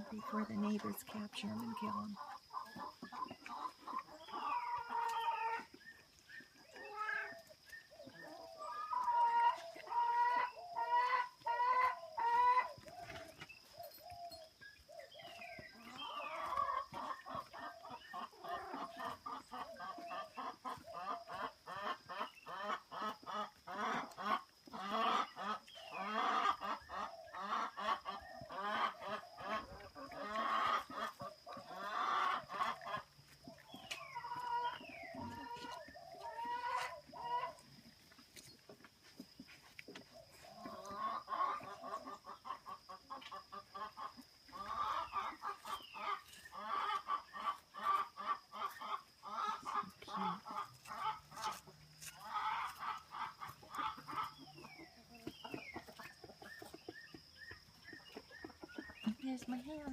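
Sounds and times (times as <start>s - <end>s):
chickens clucking and crowing: 0.0s - 59.9s.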